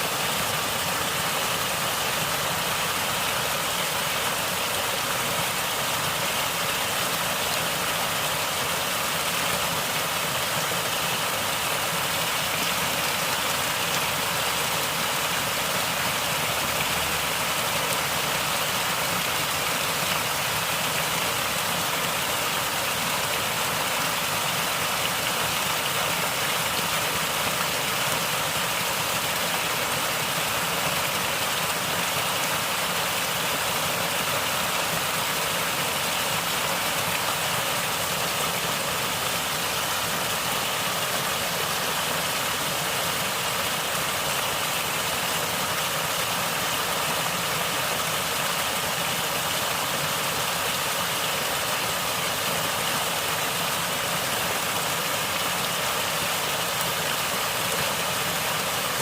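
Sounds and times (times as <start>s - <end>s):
stream water flowing and gurgling: 0.0s - 59.0s.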